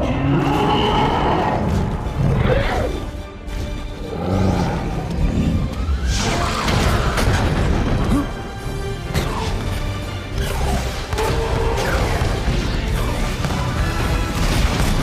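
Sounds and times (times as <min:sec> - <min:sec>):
orchestral film score: 0:00.0 - 0:15.0.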